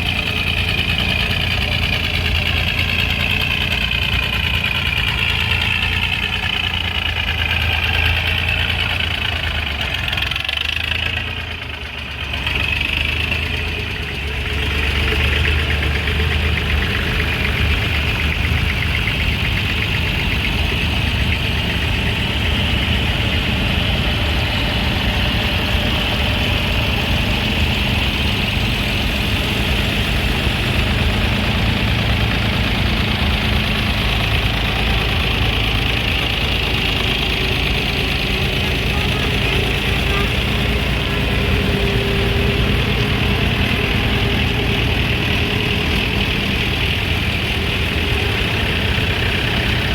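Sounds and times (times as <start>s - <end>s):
engine idling with whine: 0.0s - 49.9s.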